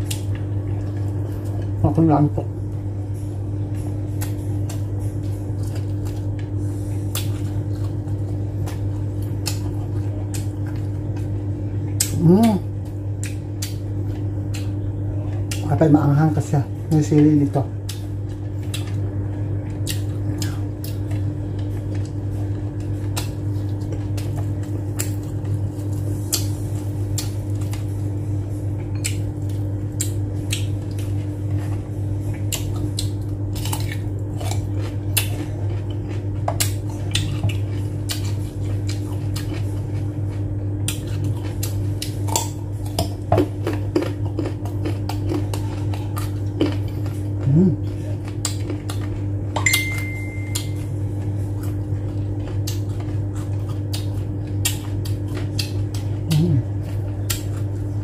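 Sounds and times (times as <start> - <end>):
steady low hum: 0.0 - 58.0
chewing: 3.7 - 15.8, 17.8 - 49.5, 50.4 - 58.0.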